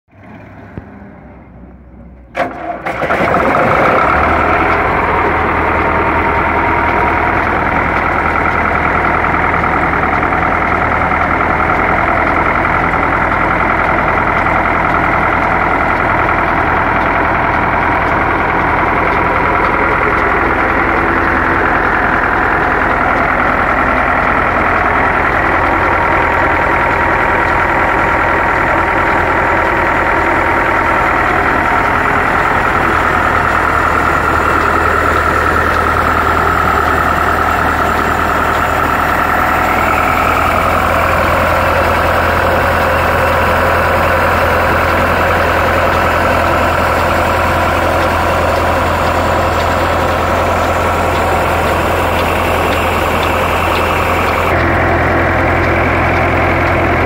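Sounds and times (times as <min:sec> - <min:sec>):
tractor diesel engine starting: 0:00.1 - 0:57.0.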